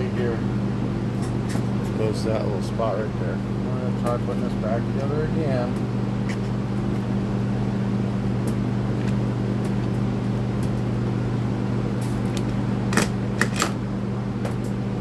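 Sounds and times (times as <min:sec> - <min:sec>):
electric fans humming: 0:00.0 - 0:15.0.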